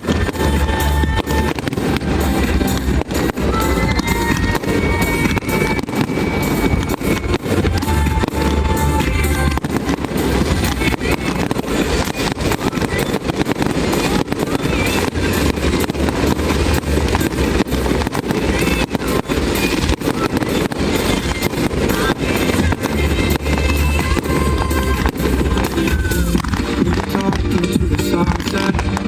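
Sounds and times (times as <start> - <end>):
fireworks bangs and crackles: 0.0 - 29.0
loud music with heavy bass: 0.0 - 29.0.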